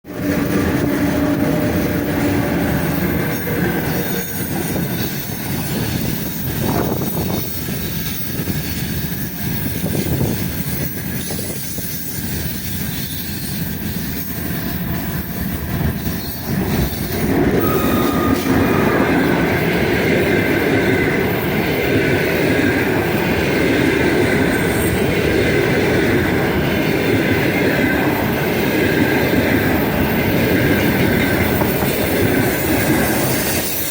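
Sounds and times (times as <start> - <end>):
train wheels on rails: 0.1 - 33.9.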